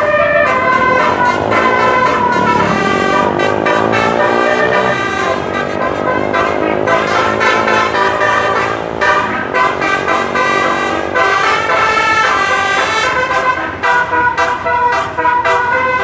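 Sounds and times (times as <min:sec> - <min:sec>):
bus horn melody: 0:00.0 - 0:16.0
low engine rumble: 0:00.0 - 0:16.0.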